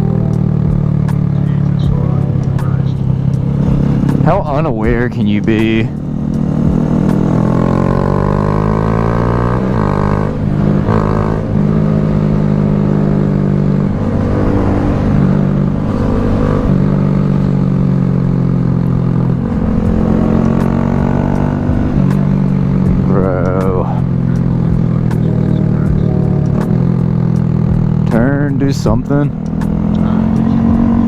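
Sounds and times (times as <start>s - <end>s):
motorcycle engine shifting gears: 0.0s - 31.0s.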